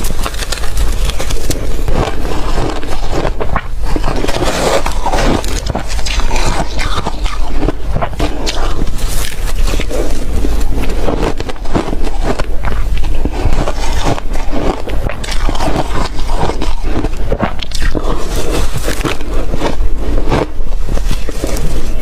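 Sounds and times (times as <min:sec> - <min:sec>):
ice cubes being crunched: 0:00.0 - 0:10.2, 0:10.8 - 0:20.5.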